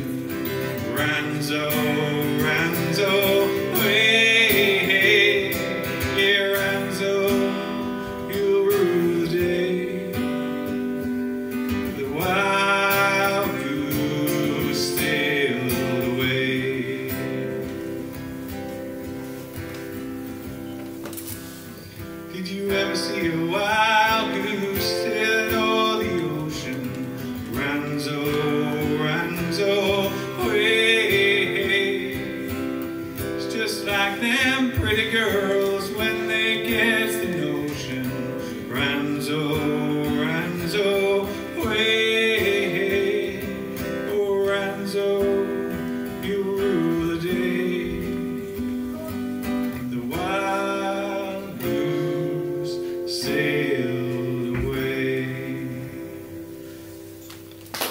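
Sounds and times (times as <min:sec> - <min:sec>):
man singing: 0:00.0 - 0:18.1, 0:22.2 - 0:56.6
strummed acoustic guitar: 0:00.0 - 0:57.9.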